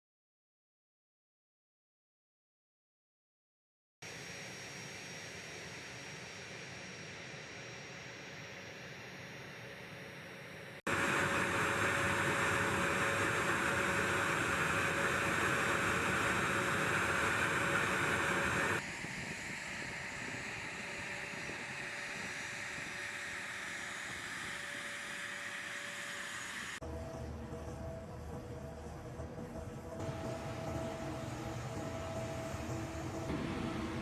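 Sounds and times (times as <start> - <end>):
aircraft engine running: 4.1 - 34.0.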